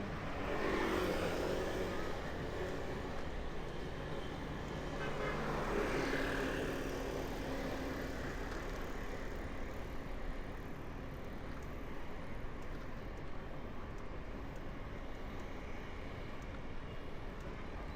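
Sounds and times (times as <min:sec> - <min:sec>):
city street traffic: 0:00.0 - 0:17.9.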